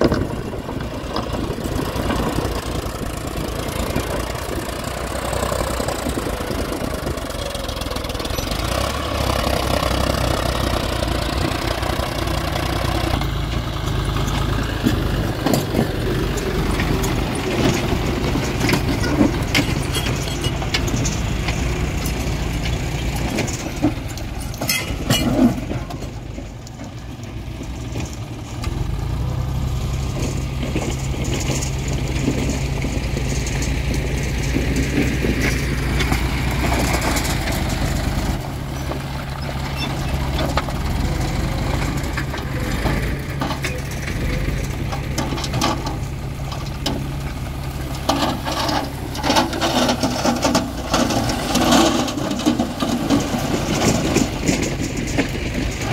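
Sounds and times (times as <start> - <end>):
soil and stones clattering: 0.0 - 55.9
tractor diesel engine running: 0.0 - 55.9.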